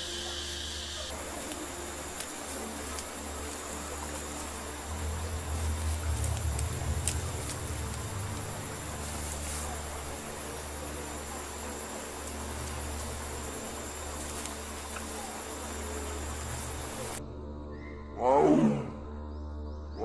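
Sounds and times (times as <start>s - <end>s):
insects trilling: 0.0s - 17.2s
low hum: 0.0s - 17.2s.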